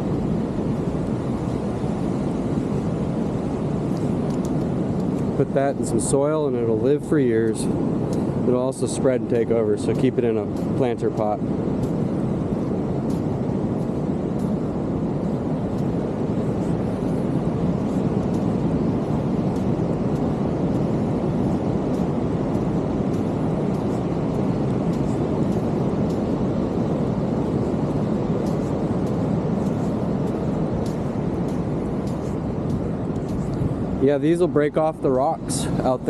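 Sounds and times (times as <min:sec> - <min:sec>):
ocean waves breaking: 0:00.0 - 0:36.0.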